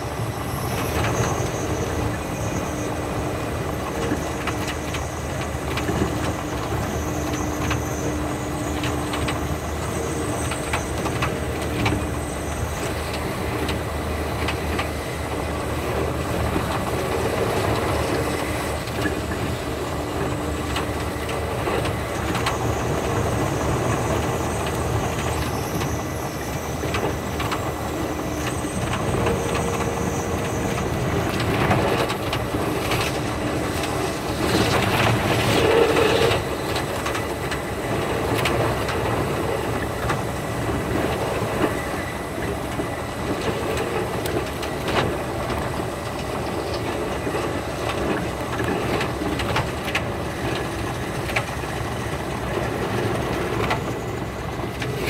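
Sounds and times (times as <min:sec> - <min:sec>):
rail-joint clicks: 0:00.0 - 0:55.0
train running rumble: 0:00.0 - 0:55.0.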